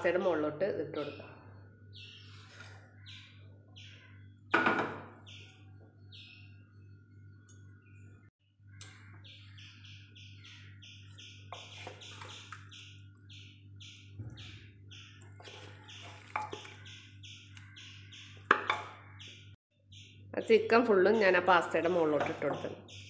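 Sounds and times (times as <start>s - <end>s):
bird chirping: 1.0s - 23.0s.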